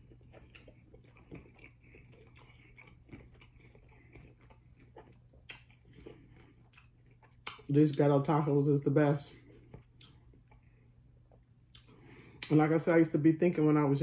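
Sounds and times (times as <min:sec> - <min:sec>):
chewing crunchy taco: 0:00.0 - 0:08.6, 0:09.3 - 0:12.6.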